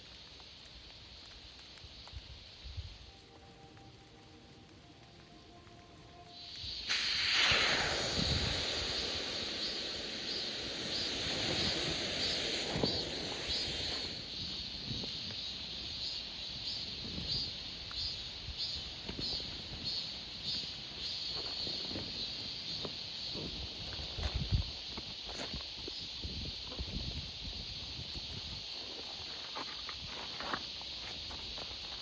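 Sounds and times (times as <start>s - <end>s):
hiss: 0.0s - 3.3s, 6.2s - 32.0s.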